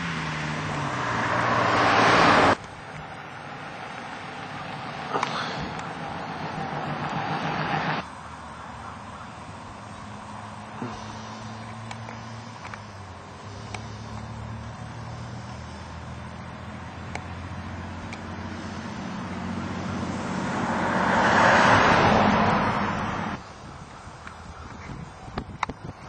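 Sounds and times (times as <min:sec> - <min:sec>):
vehicle passing: 0:00.0 - 0:25.6
low motor hum: 0:00.0 - 0:25.8.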